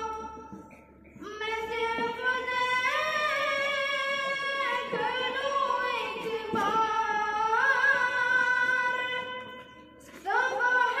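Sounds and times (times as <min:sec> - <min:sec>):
child singing: 0:00.0 - 0:09.5, 0:10.1 - 0:11.0.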